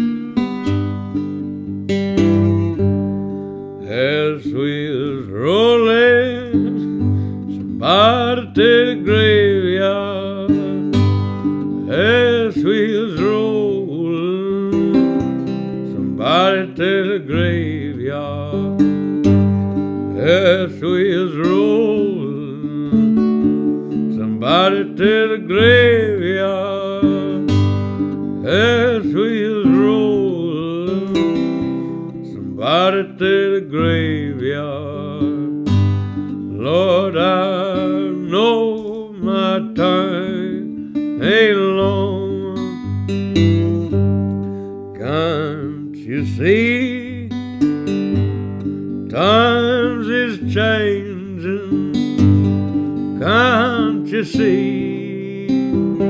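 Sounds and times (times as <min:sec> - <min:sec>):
acoustic guitar with bending notes: 0:00.0 - 0:56.0.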